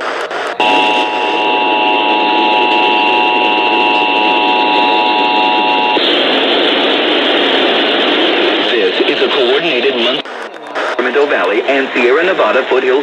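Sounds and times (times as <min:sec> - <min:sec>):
steady electronic tone: 0:00.0 - 0:11.7
radio hiss: 0:00.0 - 0:13.0.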